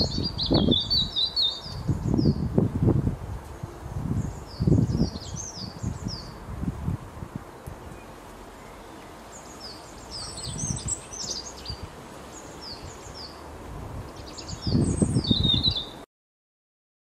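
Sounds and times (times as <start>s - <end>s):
small songbirds chirping: 0.0s - 2.6s, 3.4s - 16.1s.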